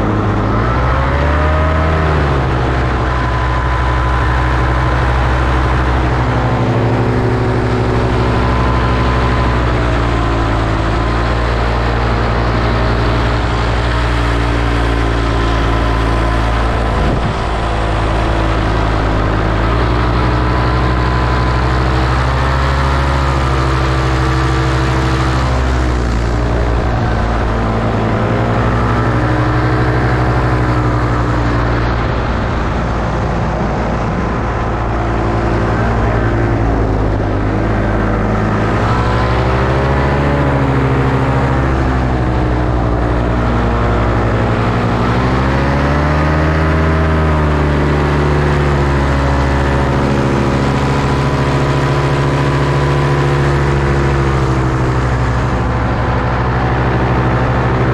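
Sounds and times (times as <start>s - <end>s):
paramotor engine and propeller: 0.0s - 57.9s.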